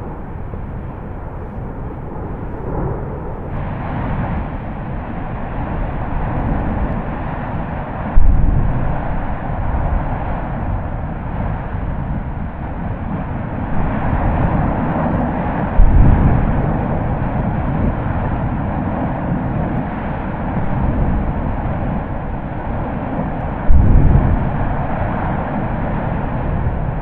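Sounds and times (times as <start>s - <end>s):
explosive volcanic blasts: 0.0s - 27.0s
volcano low rumble: 0.0s - 27.0s.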